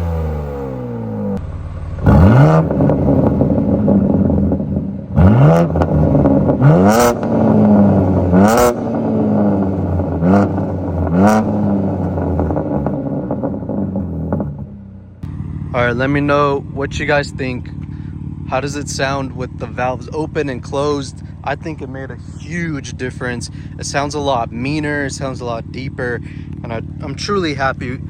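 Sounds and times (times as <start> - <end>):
car engine revving over idle: 0.0 - 28.0.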